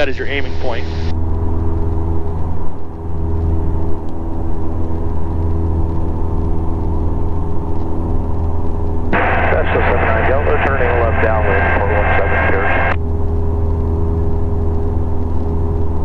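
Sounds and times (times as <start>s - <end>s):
airplane engine droning: 0.0s - 16.0s.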